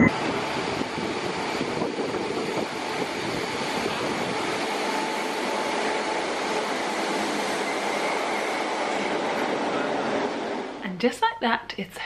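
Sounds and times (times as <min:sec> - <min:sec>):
electric train running: 0:00.0 - 0:10.8.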